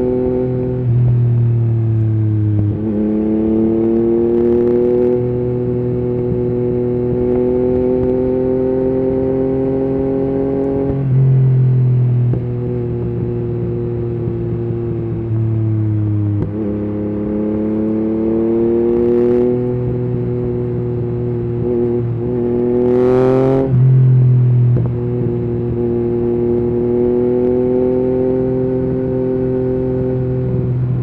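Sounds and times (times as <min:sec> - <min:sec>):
motorcycle engine revving: 0:02.2 - 0:31.0.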